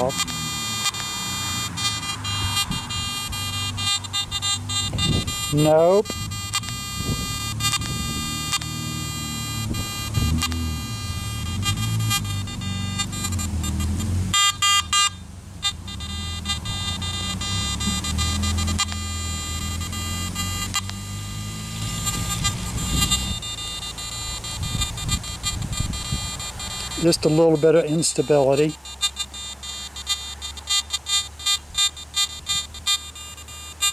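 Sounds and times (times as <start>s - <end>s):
metal detector electronic hum: 0.0s - 33.9s
sharp beeps: 0.0s - 33.9s.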